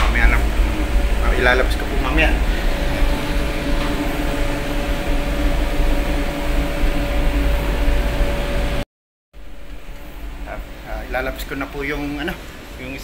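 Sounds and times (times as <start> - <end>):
machinery and ventilation hum: 0.0 - 8.8, 9.4 - 13.0
two-tone drone: 0.0 - 8.8, 9.4 - 13.0.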